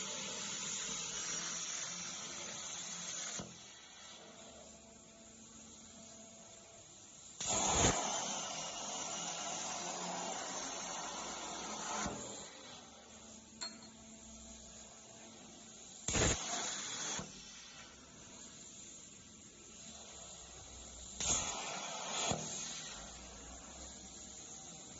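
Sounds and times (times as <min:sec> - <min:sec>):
plasma torch arc hissing: 0:00.0 - 0:13.6, 0:14.2 - 0:24.9.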